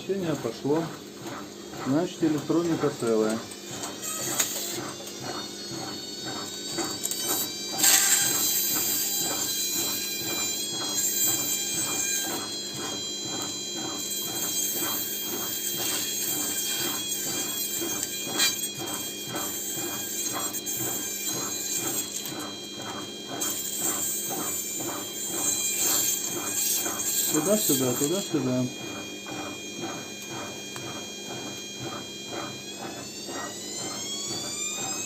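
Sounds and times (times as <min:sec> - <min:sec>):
electric motor whining: 0:02.0 - 0:35.0.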